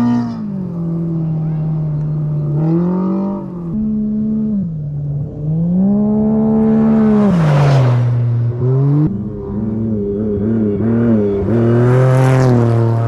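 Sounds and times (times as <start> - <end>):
distant race vehicle engine: 0.0 - 13.0
race car engine pulling hard: 0.0 - 13.0.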